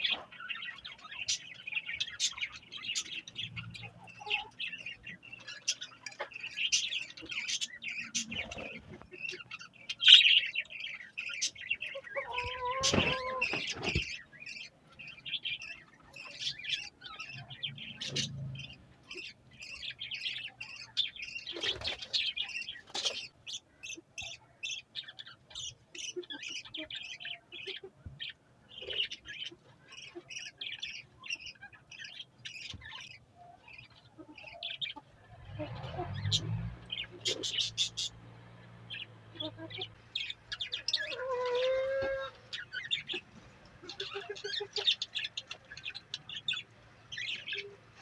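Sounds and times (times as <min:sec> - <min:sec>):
budgerigars chirping: 0:00.0 - 0:48.0.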